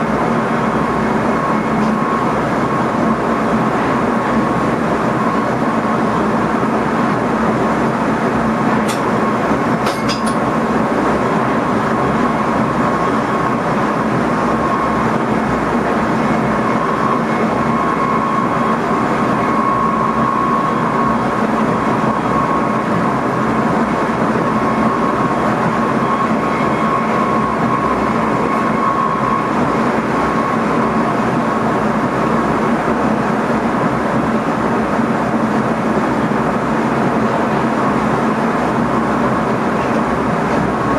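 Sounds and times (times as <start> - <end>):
train running noise in cab: 0.0 - 40.9.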